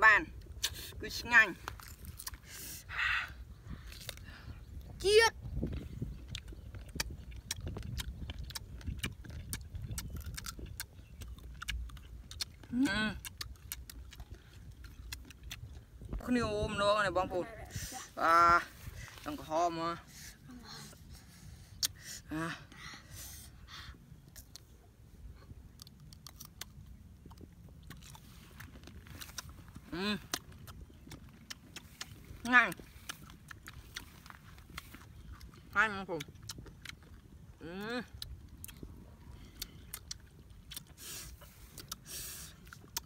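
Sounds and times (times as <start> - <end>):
chewing crunchy fruit: 0.3 - 16.8, 17.7 - 43.0.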